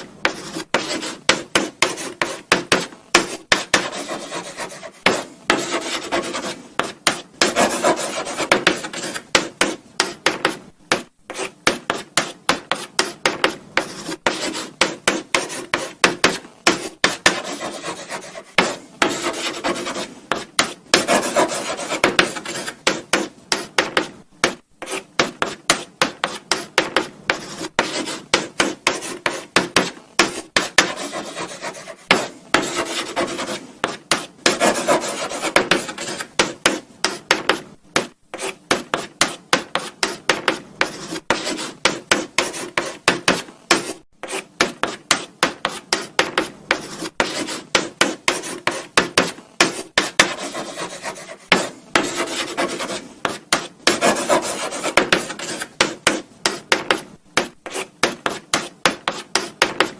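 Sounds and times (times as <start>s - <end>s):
chalk scratching on blackboard: 0.0s - 59.9s.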